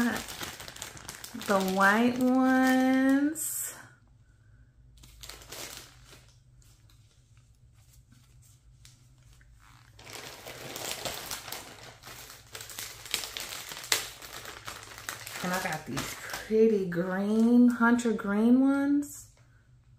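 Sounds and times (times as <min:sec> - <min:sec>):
plastic packaging crinkling: 0:00.0 - 0:03.5, 0:05.0 - 0:17.8.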